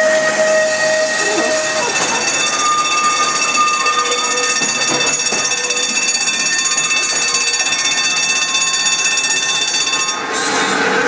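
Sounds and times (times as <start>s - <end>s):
tram high whine: 0.0s - 11.0s.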